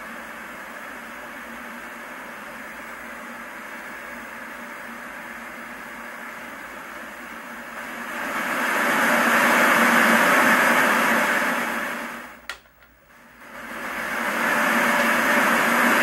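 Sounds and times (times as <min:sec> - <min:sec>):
tv static hiss: 0:00.0 - 0:16.0.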